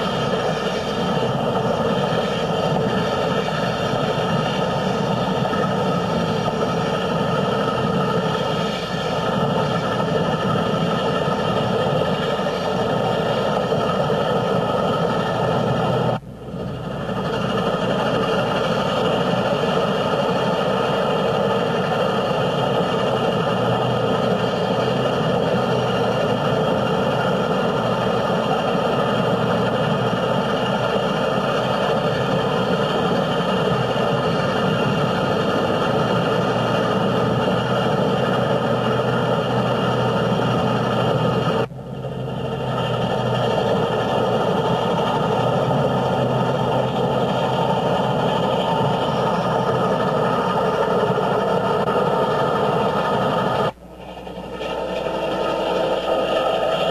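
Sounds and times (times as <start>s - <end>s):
moving vehicle rumbling: 0.0s - 56.9s.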